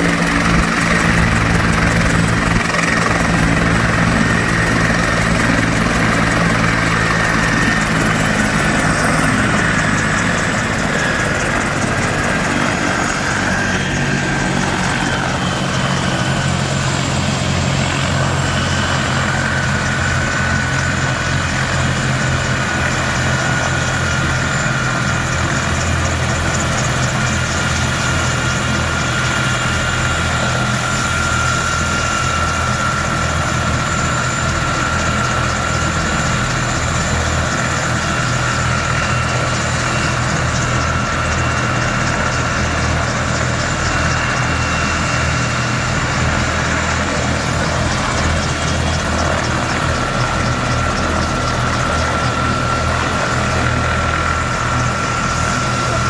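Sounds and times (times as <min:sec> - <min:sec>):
helicopter rotor hum: 0:00.0 - 0:56.0
turbine whine: 0:00.0 - 0:56.0.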